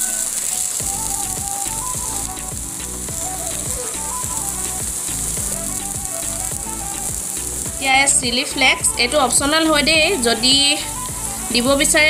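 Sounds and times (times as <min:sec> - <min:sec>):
background music with beat: 0:00.0 - 0:12.0
food sizzling in oil: 0:00.0 - 0:12.0.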